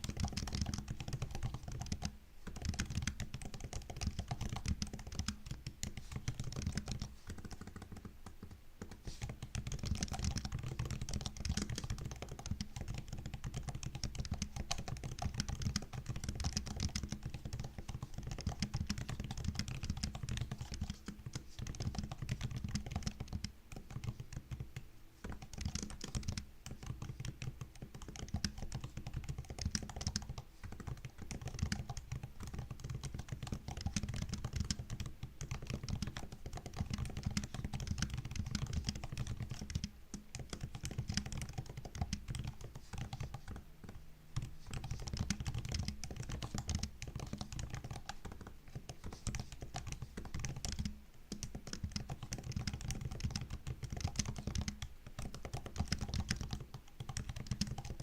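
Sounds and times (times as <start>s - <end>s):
fast typing on laptop keyboard: 0.0s - 58.0s.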